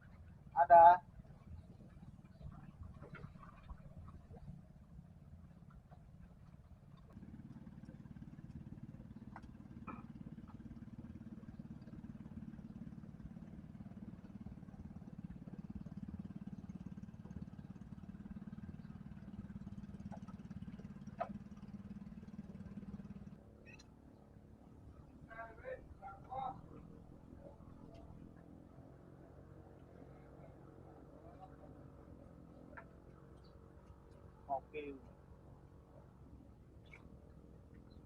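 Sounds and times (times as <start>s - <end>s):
distant engine humming: 0.0s - 38.0s.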